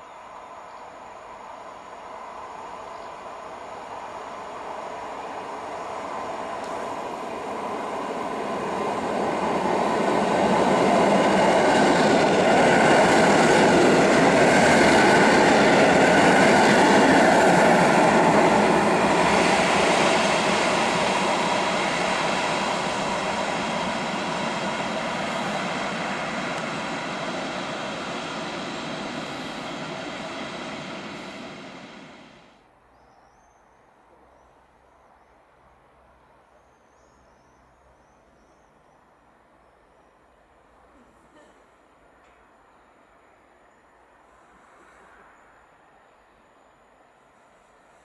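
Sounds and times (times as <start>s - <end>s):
electric train rumbling past: 0.0s - 32.6s, 41.8s - 48.0s.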